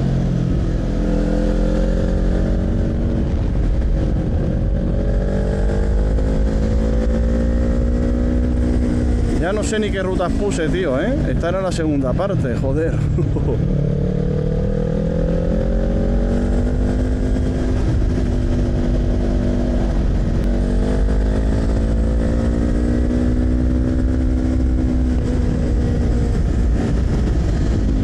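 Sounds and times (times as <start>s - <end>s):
motorcycle engine under throttle: 0.0s - 11.4s, 13.1s - 28.0s
wind noise on microphone: 0.0s - 28.0s.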